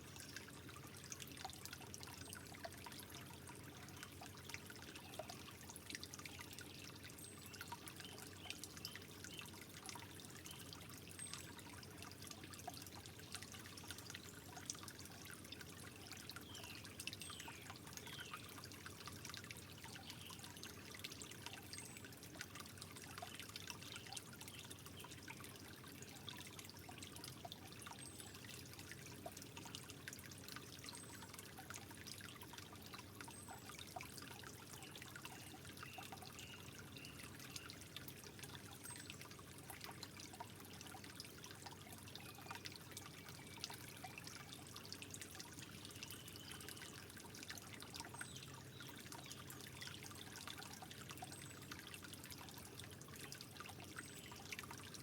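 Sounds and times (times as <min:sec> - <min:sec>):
water dripping and splashing: 0:00.0 - 0:55.0
water trickling: 0:00.0 - 0:55.0.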